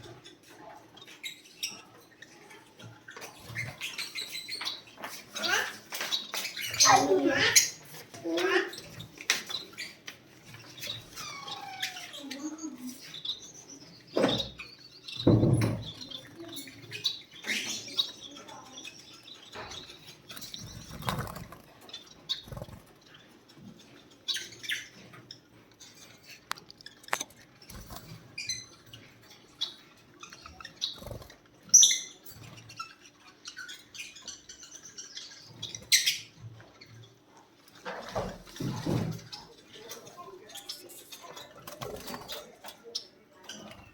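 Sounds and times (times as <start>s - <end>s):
lovebirds chirping: 0.0s - 43.9s.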